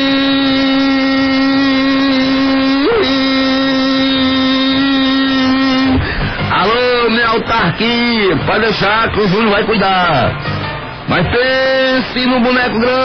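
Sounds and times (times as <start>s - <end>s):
steady tone: 0.0s - 13.0s.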